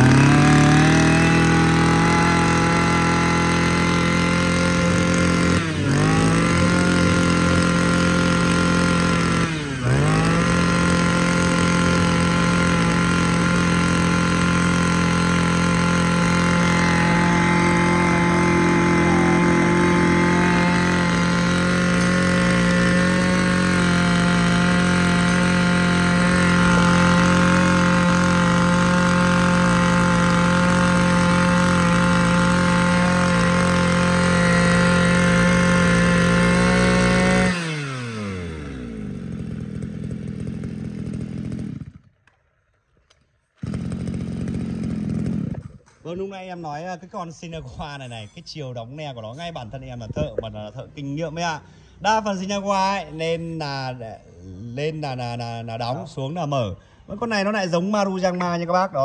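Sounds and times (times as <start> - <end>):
brush cutter engine revving: 0.0 - 46.8, 48.8 - 59.0.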